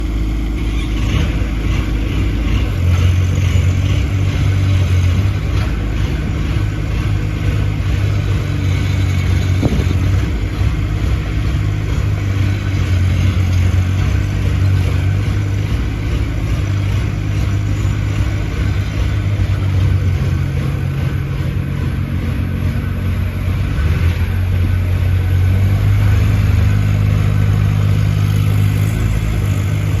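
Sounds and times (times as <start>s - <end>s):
mini excavator engine running: 0.0s - 30.0s.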